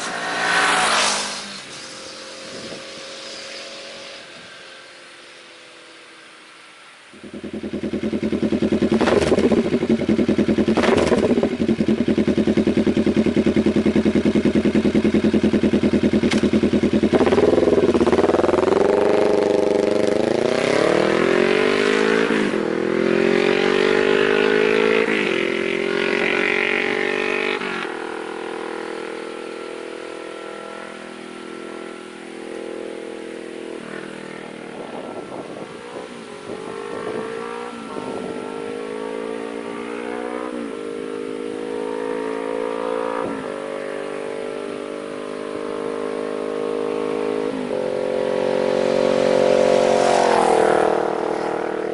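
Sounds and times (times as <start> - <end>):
motorcycle engine revving: 0.0 - 5.0, 7.1 - 51.9.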